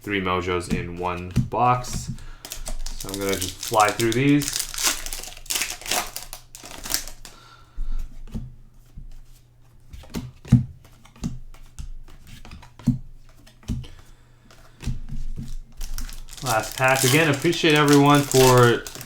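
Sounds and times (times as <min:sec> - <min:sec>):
cards being flipped through: 0:01.0 - 0:07.4, 0:10.0 - 0:19.0.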